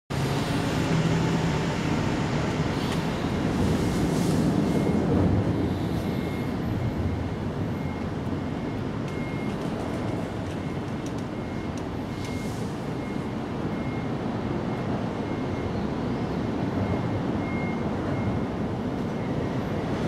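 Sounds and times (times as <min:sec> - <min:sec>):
road traffic rumble: 0:00.1 - 0:20.0.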